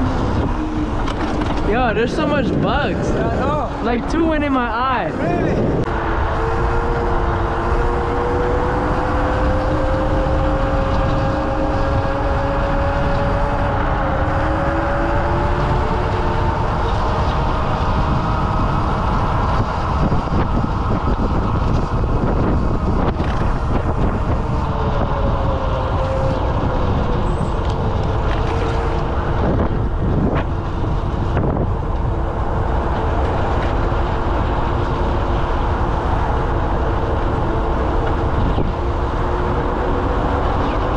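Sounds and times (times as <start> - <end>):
wind rush on microphone: 0.0 - 40.9
electric scooter motor whining: 5.3 - 40.9.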